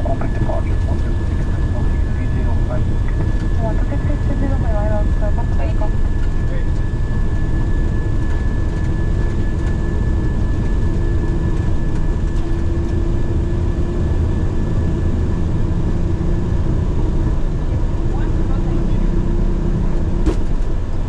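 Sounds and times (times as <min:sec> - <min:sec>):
airflow rush and engine rumble: 0:00.0 - 0:21.0.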